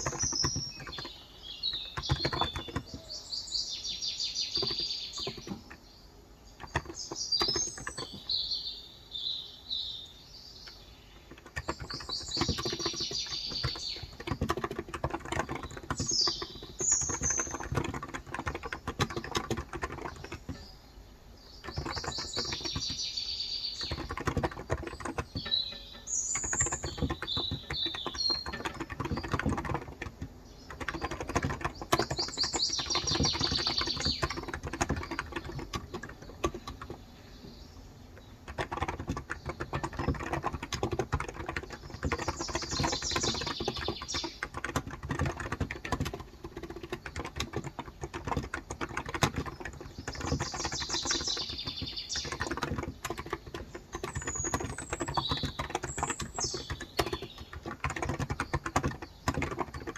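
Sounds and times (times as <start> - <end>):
typing on a keyboard: 0.0 - 3.4, 4.0 - 5.8, 6.6 - 8.4, 10.6 - 20.8, 21.4 - 59.9
small birds chirping: 0.0 - 59.9.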